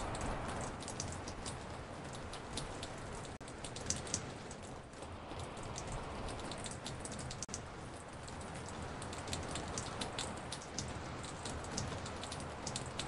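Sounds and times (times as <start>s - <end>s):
rain drops dripping on porch: 0.0s - 13.0s
steady rain hiss: 0.0s - 13.0s.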